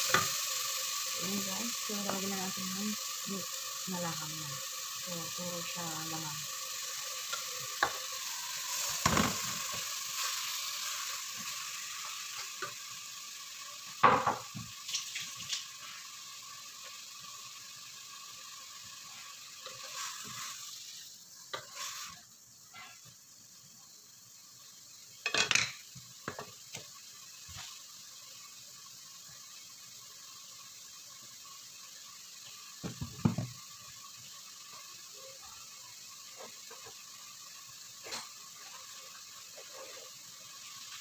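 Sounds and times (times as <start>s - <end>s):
meat sizzling in oil: 0.0s - 41.0s.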